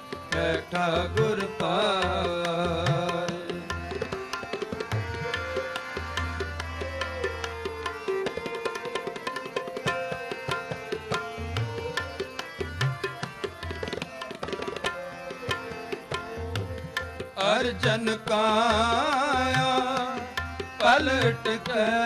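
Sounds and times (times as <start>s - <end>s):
harmonium chords: 0.0s - 22.0s
tabla strokes: 0.0s - 22.0s.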